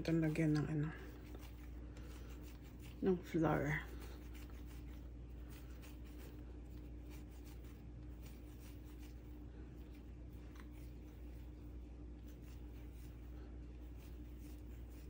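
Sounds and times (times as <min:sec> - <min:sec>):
hands rolling bread dough: 0:00.0 - 0:15.0
steady low hum: 0:00.0 - 0:15.0.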